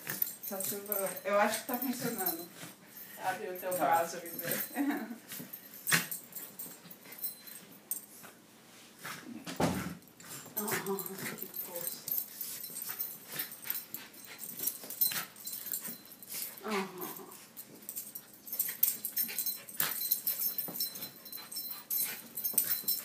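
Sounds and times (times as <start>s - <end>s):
dogs scuffling and clicking: 0.0s - 8.4s, 9.0s - 23.0s.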